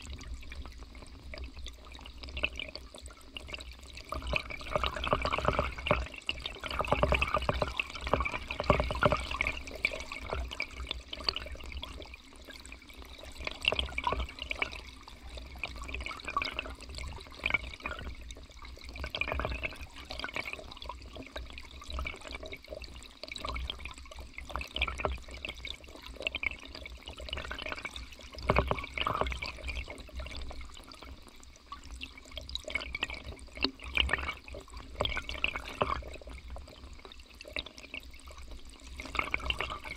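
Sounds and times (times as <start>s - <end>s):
underwater river gurgling: 0.0s - 39.9s.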